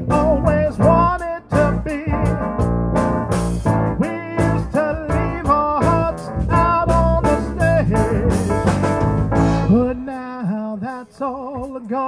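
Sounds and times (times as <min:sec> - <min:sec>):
man singing: 0:00.0 - 0:02.7, 0:03.9 - 0:08.7, 0:09.5 - 0:12.0
live band with keyboard: 0:00.0 - 0:12.0.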